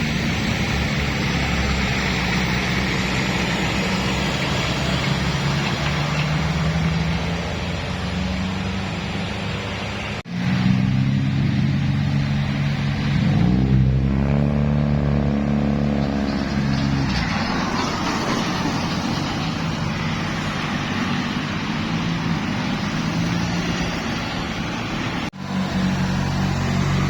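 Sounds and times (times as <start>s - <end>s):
diesel bus engines passing: 0.0s - 27.0s.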